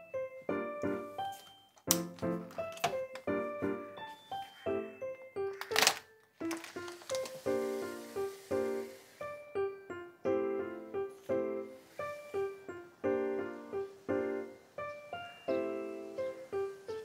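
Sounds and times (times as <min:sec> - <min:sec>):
bouncy piano tune: 0:00.0 - 0:17.0.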